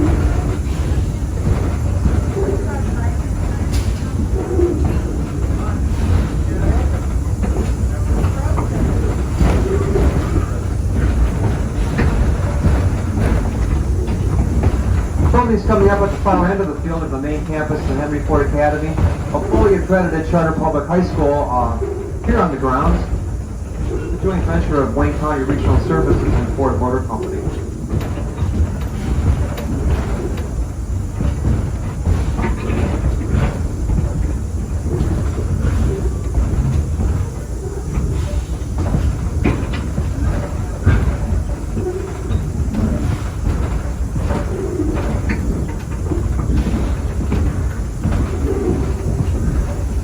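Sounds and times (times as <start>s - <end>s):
train rumbling along track: 0.0s - 50.0s
wheels clacking on rails: 0.0s - 50.0s.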